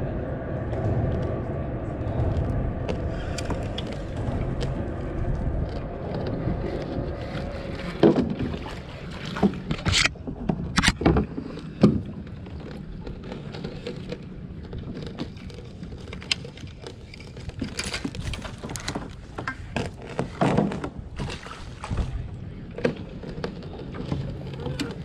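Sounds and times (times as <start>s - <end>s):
water washing around kayak: 0.0s - 25.0s
gear knocking in kayak: 0.7s - 25.0s.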